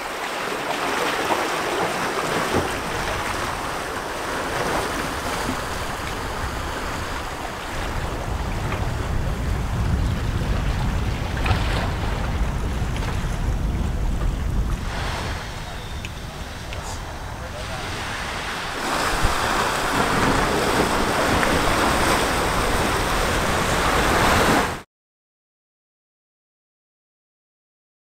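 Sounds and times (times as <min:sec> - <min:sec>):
steady wind: 0:00.0 - 0:24.8
waves washing on rocky shore: 0:00.0 - 0:24.8
wind buffeting microphone: 0:01.3 - 0:24.8.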